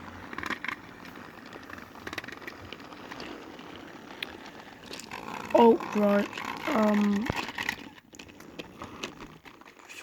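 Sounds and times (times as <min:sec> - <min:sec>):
toy train motor whirring: 0:00.0 - 0:10.0
wheels clicking over track joints: 0:00.0 - 0:10.0.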